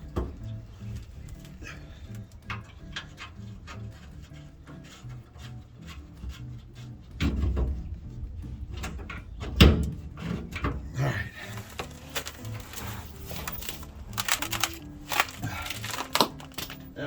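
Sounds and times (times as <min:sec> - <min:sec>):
tools and metal parts clattering: 0:00.0 - 0:06.5, 0:08.7 - 0:17.0.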